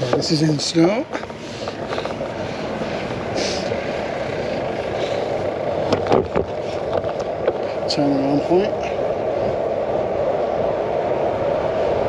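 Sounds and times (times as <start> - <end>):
tyres rumbling on road: 0.0 - 12.0
wind: 0.0 - 12.0.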